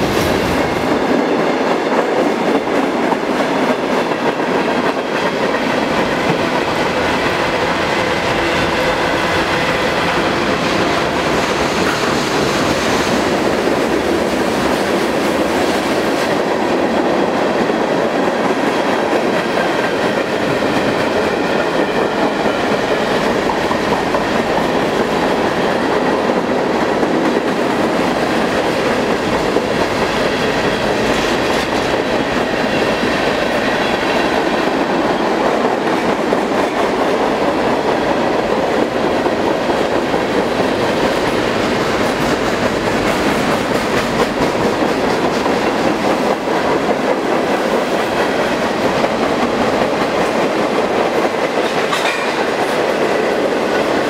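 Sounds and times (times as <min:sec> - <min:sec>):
steel train wheels on rails: 0:00.0 - 0:54.0.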